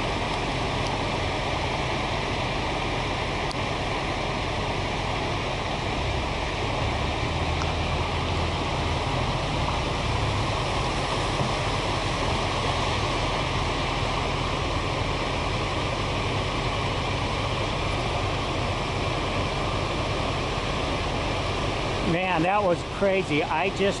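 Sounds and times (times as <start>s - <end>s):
flood water rushing: 0.0s - 24.0s
vehicle engine running: 0.0s - 24.0s.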